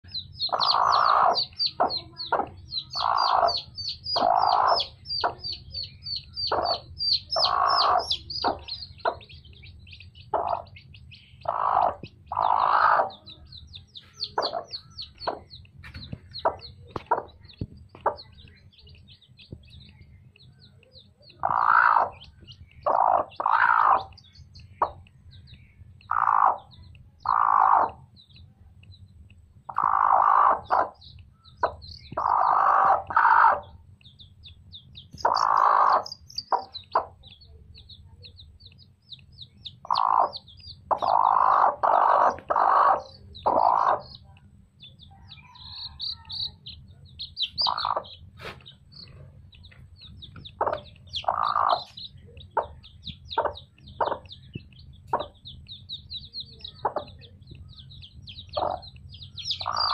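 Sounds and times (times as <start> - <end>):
chicks peeping: 0.0 - 59.9
hen clucking: 0.0 - 59.9.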